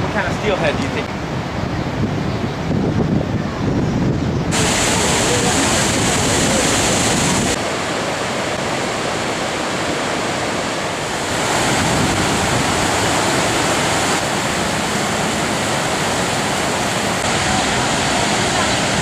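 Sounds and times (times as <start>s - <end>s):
large waterfall rushing: 0.0s - 2.4s, 4.4s - 19.0s.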